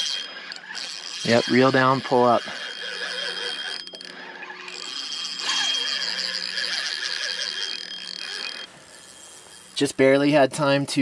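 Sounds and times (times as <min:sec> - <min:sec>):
fishing reel whirring: 0:00.0 - 0:10.3.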